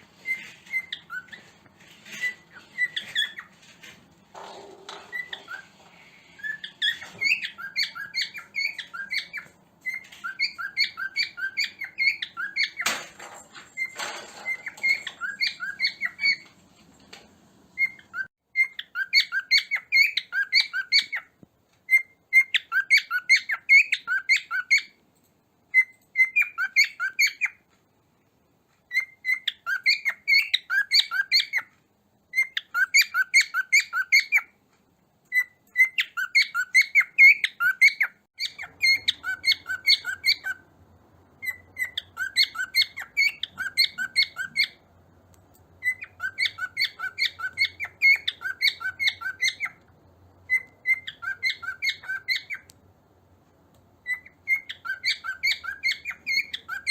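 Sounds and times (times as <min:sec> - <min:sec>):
cockatiel chirping and whistling: 0:00.2 - 0:03.9, 0:04.9 - 0:13.0, 0:13.8 - 0:16.5, 0:17.8 - 0:25.0, 0:25.7 - 0:27.7, 0:28.9 - 0:31.7, 0:32.3 - 0:34.6, 0:35.3 - 0:40.7, 0:41.4 - 0:44.8, 0:45.8 - 0:49.8, 0:50.4 - 0:52.8, 0:54.0 - 0:56.9.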